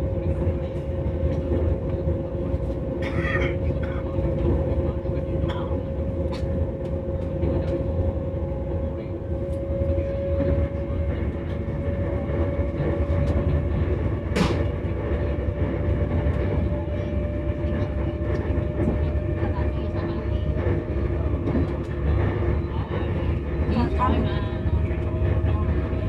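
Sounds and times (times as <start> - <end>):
rumble of wheels on track: 0.0 - 26.0.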